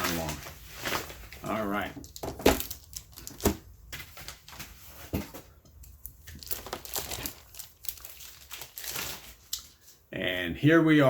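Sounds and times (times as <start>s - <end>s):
packing material crinkling and tearing: 0.0s - 5.0s, 5.9s - 9.9s.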